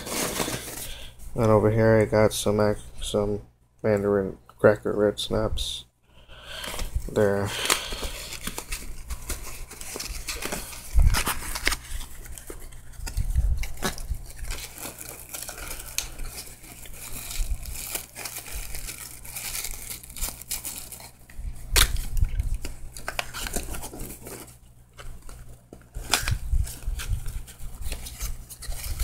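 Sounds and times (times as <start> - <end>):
paper and cardboard crinkling: 0.0 - 1.1, 6.5 - 29.0.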